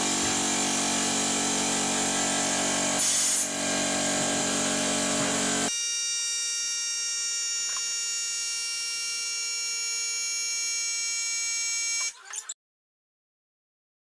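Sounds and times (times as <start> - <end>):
high-pitched buzzing tone: 0.0 - 12.5.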